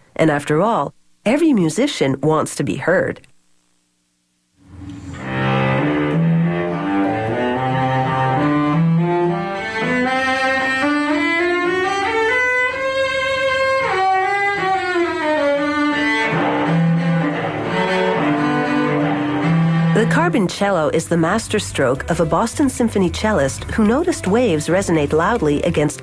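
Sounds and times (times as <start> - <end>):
bowed cello melody: 4.7 - 26.0.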